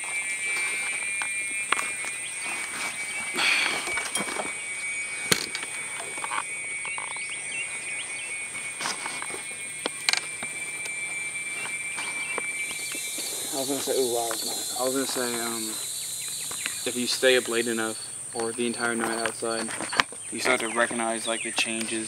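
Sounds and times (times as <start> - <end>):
low steady trill: 0.0 - 19.5
high-pitched insect drone: 0.0 - 22.0.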